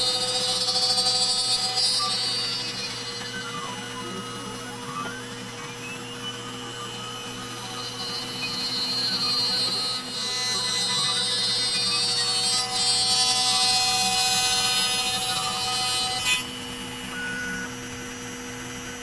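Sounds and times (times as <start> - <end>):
router motor whining: 0.0 - 19.0.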